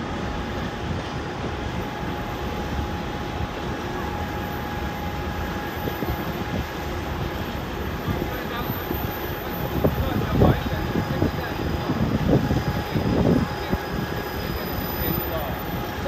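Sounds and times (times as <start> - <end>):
faint steady whine: 0.0 - 16.0
train wheels rumbling on rails: 0.0 - 16.0.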